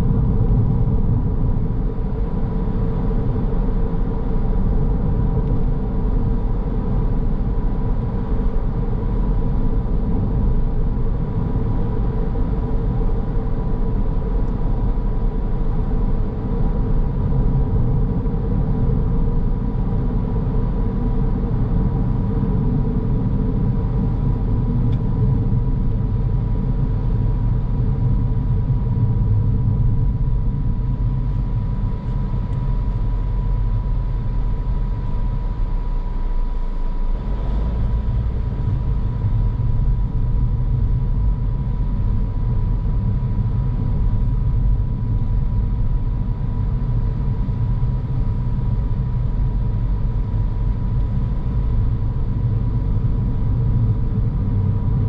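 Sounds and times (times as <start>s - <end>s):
car road and engine rumble: 0.0s - 55.0s
thin steady whine: 0.0s - 55.0s.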